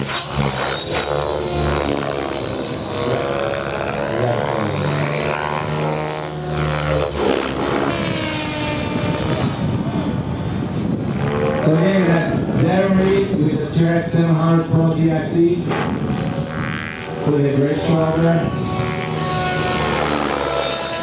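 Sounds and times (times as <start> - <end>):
radio-controlled helicopter buzzing: 0.0 - 21.0.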